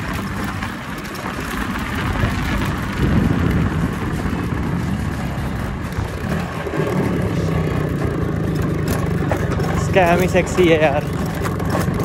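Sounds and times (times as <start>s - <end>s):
wind rushing over microphone: 0.0s - 11.1s
low road rumble: 0.0s - 12.0s.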